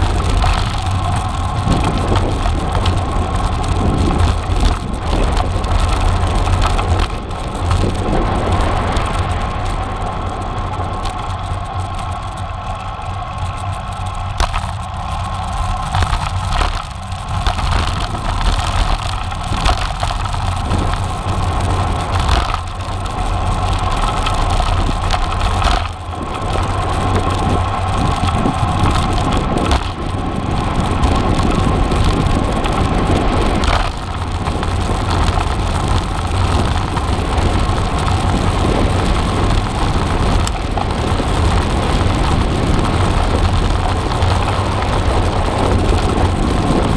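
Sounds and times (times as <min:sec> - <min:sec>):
bike tyre road noise: 0:00.0 - 0:46.9
wind buffeting microphone: 0:00.0 - 0:46.9.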